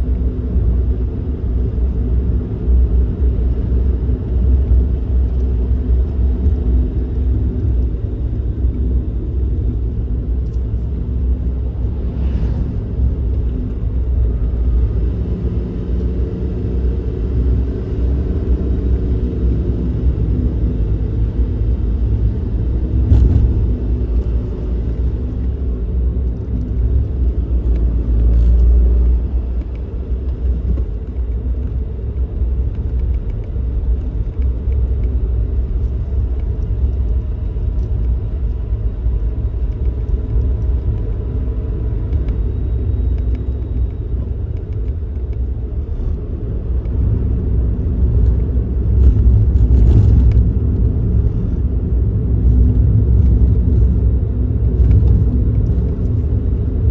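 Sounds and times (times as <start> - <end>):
car engine and road rumble: 0.0 - 56.9.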